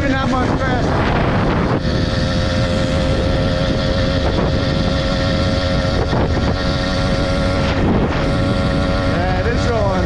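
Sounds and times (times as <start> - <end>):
small motorbike engine running: 0.0 - 10.0
wind rushing over microphone: 0.0 - 10.0.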